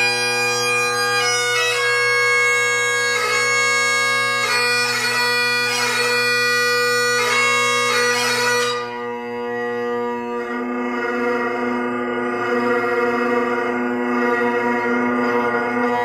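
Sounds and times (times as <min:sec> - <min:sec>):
bagpipe melody with drones: 0:00.0 - 0:16.0.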